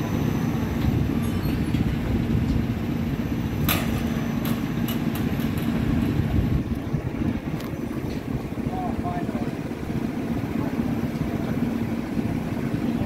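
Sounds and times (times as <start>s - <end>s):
amusement ride rumble: 0.0s - 13.0s.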